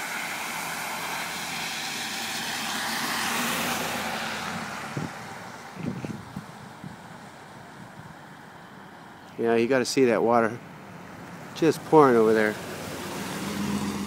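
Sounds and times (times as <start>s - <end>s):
road vehicle passing by: 0.0s - 14.0s.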